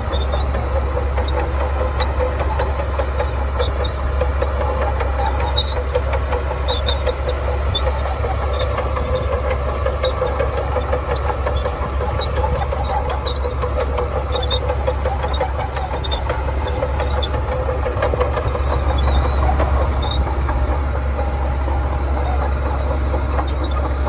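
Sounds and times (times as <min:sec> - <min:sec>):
bulldozer diesel engine running: 0:00.0 - 0:24.0
short high squeaks: 0:00.1 - 0:20.9, 0:21.7 - 0:24.0.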